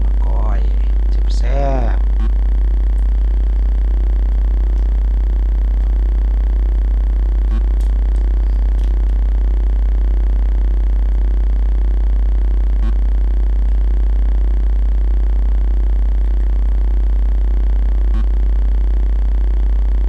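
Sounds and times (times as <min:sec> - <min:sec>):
faint pulsing tone: 0:00.0 - 0:20.0
loud low hum: 0:00.0 - 0:20.0.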